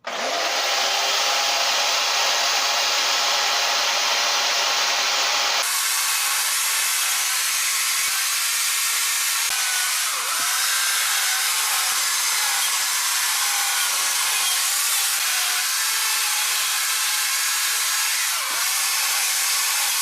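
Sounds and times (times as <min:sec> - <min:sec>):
power carving tool cutting wood: 0:00.0 - 0:20.0.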